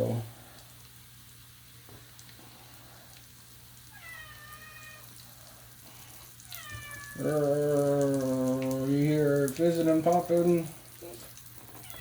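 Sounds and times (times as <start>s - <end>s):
fizzing and crackling mixture: 0.0s - 12.0s.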